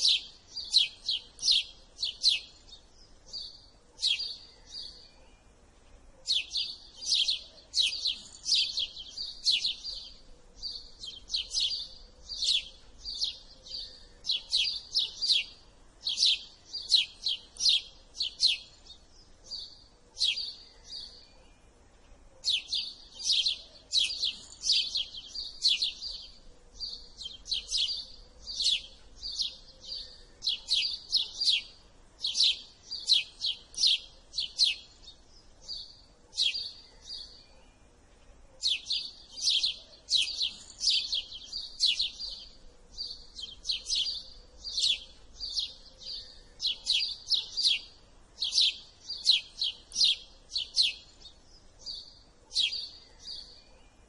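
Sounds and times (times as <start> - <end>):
sparrow chirping: 0.0 - 54.0.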